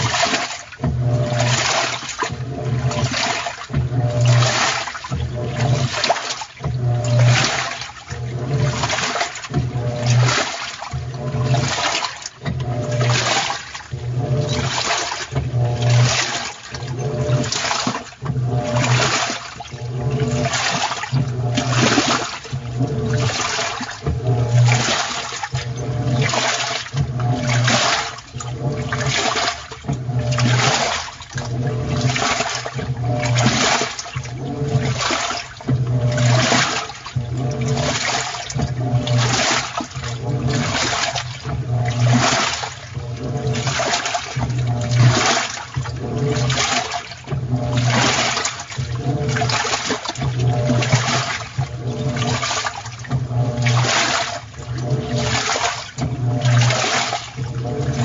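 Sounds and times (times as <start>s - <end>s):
low motor hum: 0.0s - 58.0s
water sloshing in washing machine: 0.0s - 58.0s.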